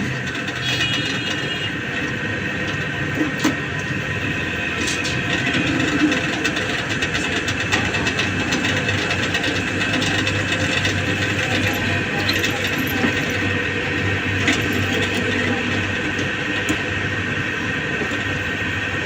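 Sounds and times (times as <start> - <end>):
machine running steadily: 0.0 - 19.0.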